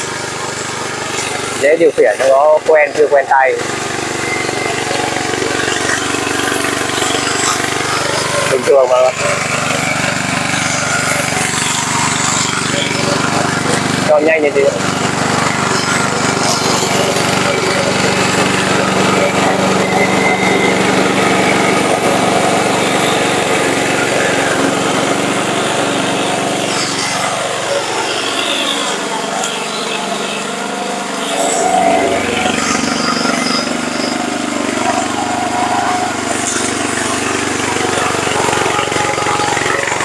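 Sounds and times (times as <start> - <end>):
mower petrol engine running: 0.0 - 40.0.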